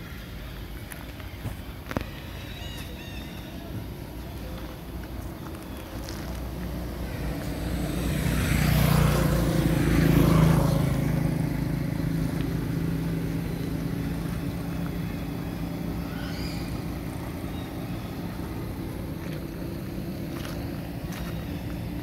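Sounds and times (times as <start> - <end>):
vehicle passing: 3.3 - 22.0.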